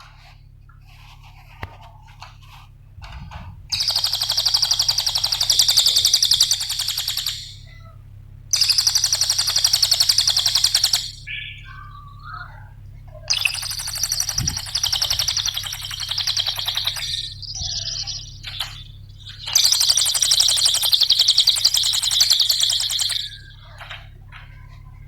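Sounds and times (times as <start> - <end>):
low hum: 0.0 - 25.0
songbird chirping and trilling: 3.0 - 25.0.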